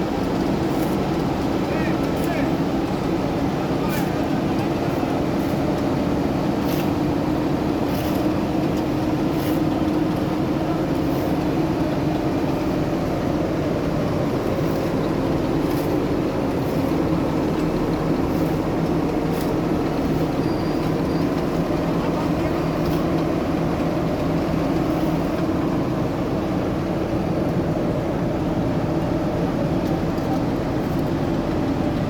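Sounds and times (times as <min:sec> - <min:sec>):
heavy machinery engine running: 0:00.0 - 0:32.0.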